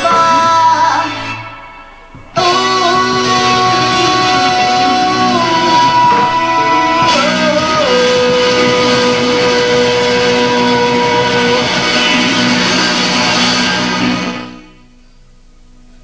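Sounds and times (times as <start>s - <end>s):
rock band playing: 0.0s - 15.0s
sliding lead guitar notes: 0.0s - 15.2s.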